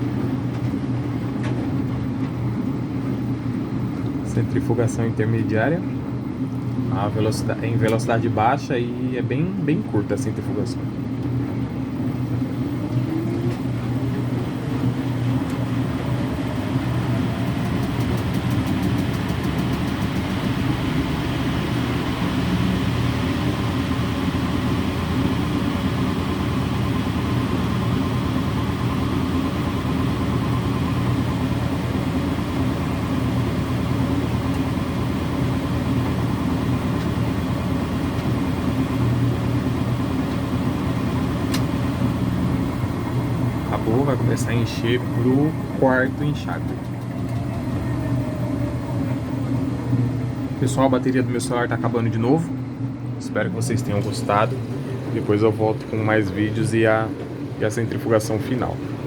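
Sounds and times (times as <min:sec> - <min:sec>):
washing machine drum motor whine: 0:00.0 - 0:59.0.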